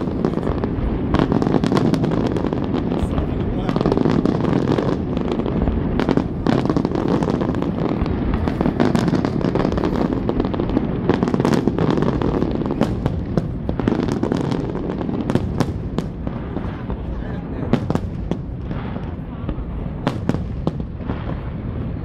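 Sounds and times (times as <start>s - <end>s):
fireworks booming: 0.0s - 22.0s
fireworks cracks and crackles: 0.0s - 22.0s.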